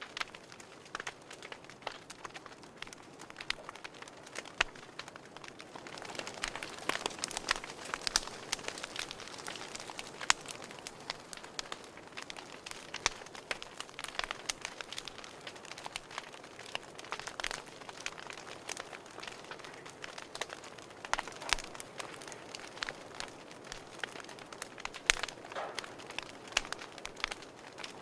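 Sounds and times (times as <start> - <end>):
wood fire crackling: 0.0 - 28.0
fire hissing: 0.2 - 28.0.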